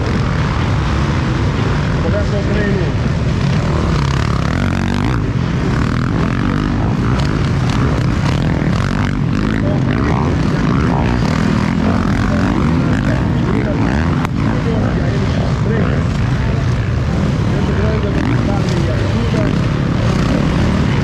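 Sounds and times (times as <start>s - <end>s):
heavy low rumble: 0.0s - 21.0s
motorcycle engines revving: 0.0s - 21.0s.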